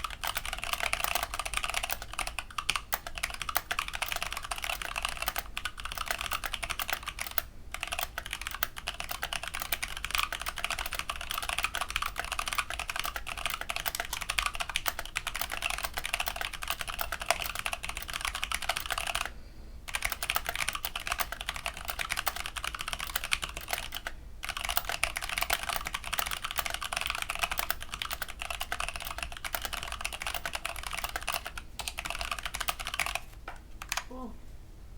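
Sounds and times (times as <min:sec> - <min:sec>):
mechanical keyboard typing clicks: 0:00.0 - 0:19.3, 0:19.9 - 0:34.1.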